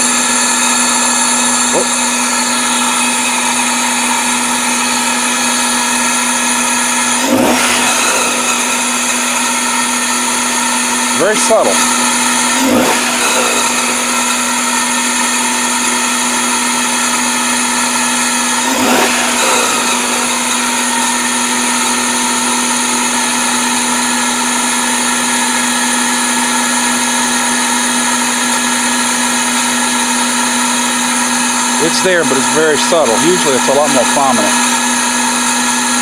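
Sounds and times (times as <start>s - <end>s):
car engine idling with a whine: 0.0s - 36.0s.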